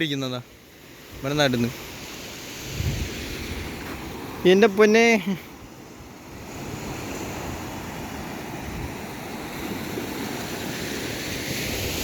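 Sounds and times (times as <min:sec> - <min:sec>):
surf washing on shore: 0:00.0 - 0:12.0.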